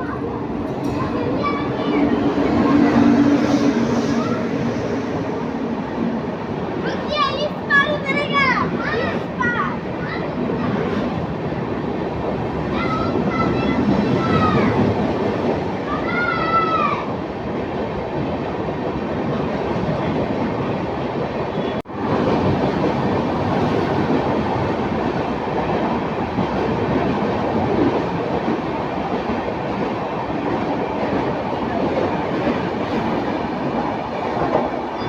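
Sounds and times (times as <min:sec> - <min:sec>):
train wheels rushing on rails: 0:00.0 - 0:35.0.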